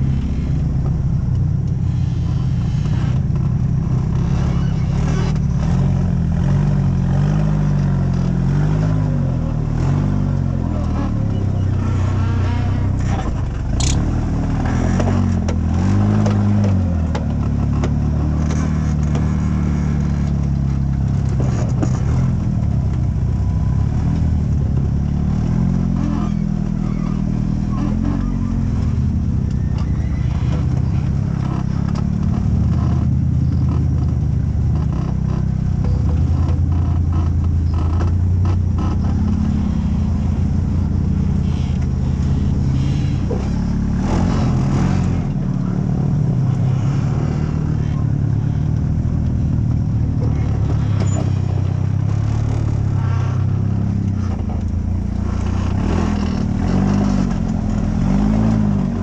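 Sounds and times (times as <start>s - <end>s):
buggy engine revving: 0.0s - 59.0s
knocks and scrapes: 0.0s - 59.0s.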